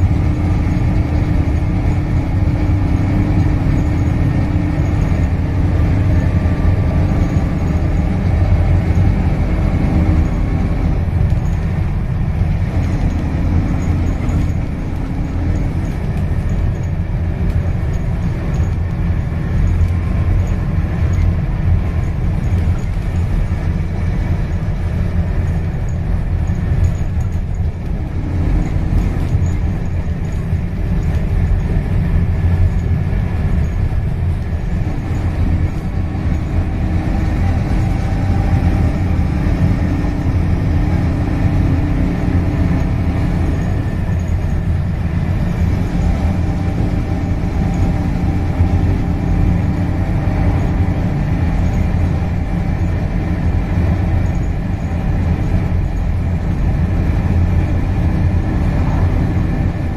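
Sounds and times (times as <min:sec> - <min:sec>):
bus diesel engine drone: 0:00.0 - 0:59.9
road and tyre noise: 0:00.0 - 0:59.9.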